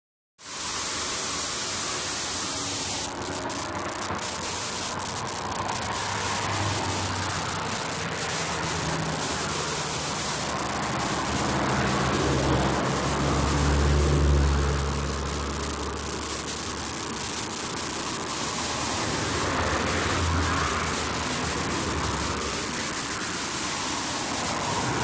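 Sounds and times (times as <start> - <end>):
loud steady hissing: 0.4 - 25.0
crackling: 0.5 - 25.0
low vehicle engine hum: 3.1 - 23.2.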